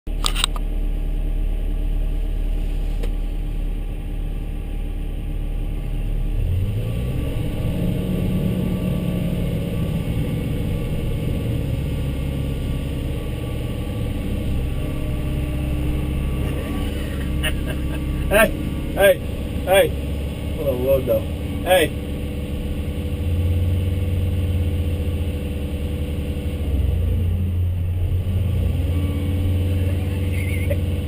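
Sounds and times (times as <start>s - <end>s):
diesel engine revving: 3.3s - 31.0s.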